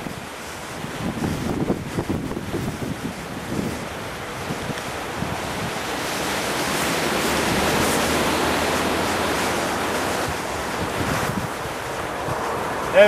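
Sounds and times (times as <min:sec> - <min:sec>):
wind gusting over microphone: 0:00.0 - 0:13.0.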